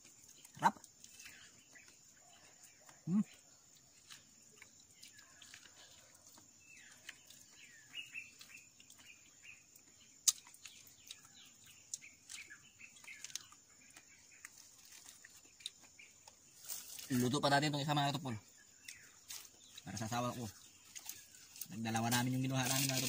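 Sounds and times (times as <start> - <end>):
faint bird chirps: 0.0 - 23.0.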